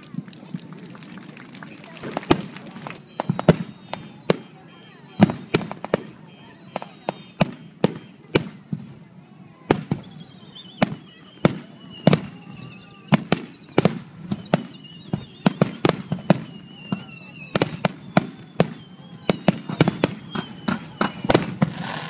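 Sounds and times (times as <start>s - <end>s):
fireworks bursting: 0.0s - 22.0s
high wavering whistle: 2.0s - 8.3s, 9.9s - 22.0s.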